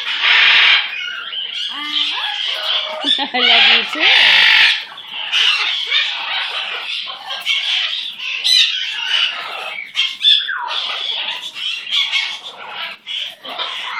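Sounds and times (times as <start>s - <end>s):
pet bird chattering and squawking: 0.0s - 13.9s.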